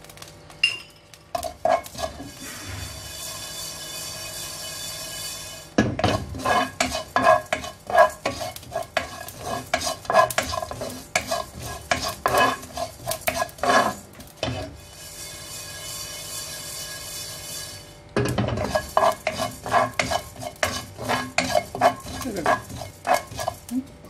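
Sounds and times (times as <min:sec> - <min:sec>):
spatula scraping seeds in pan: 0:01.3 - 0:24.0.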